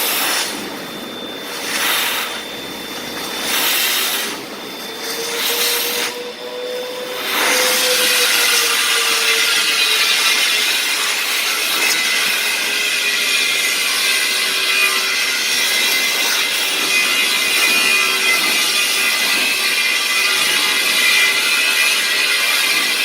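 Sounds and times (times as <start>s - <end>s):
industrial vacuum cleaner sucking sand: 0.0s - 23.0s.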